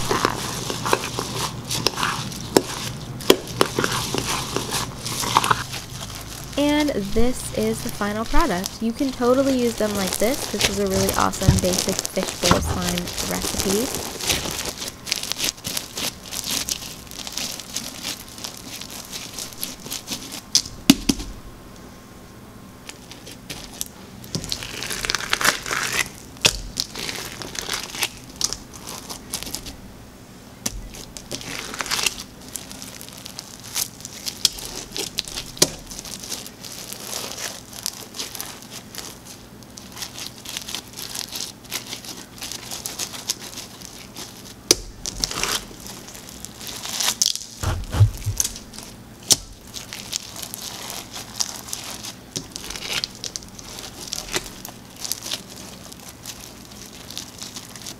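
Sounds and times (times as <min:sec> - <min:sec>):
crunchy slime crackling: 0:00.0 - 0:21.3, 0:22.8 - 0:29.8, 0:30.6 - 0:57.9.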